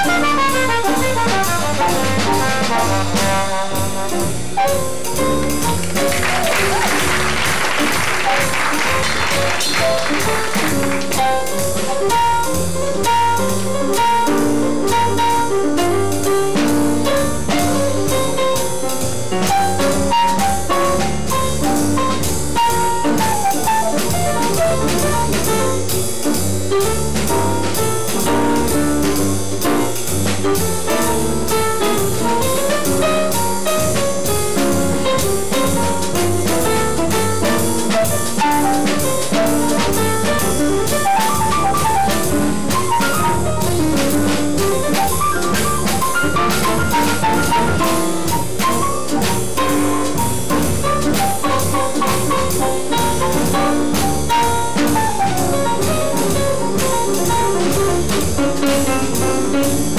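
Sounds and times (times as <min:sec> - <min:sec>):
drum kit: 0:00.0 - 0:59.9
jazz piano solo: 0:00.0 - 0:59.9
upright bass: 0:00.0 - 0:59.9.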